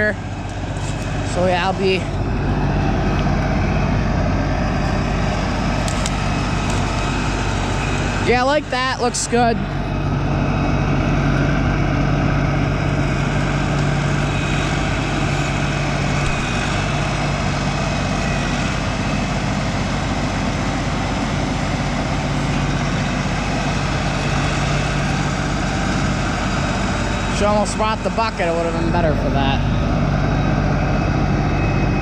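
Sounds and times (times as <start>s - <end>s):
faint high whine: 0.0s - 32.0s
tractor diesel engine running: 0.0s - 32.0s.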